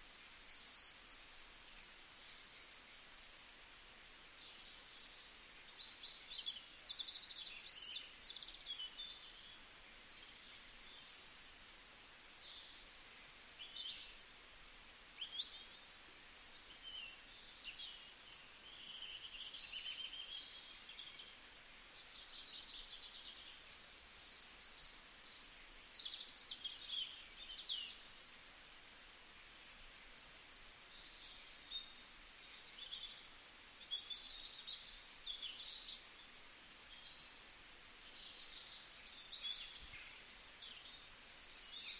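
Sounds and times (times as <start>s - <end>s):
faint steady hiss: 0.0s - 41.9s
small birds chirping: 0.0s - 41.9s.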